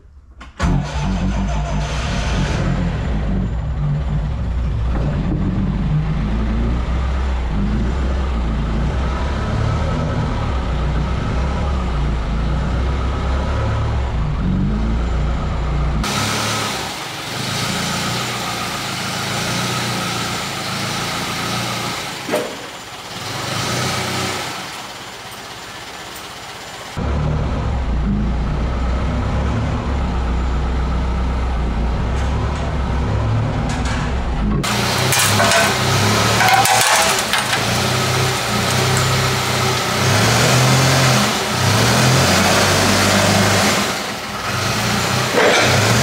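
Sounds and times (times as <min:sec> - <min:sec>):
forklift engine running: 0:00.0 - 0:46.0.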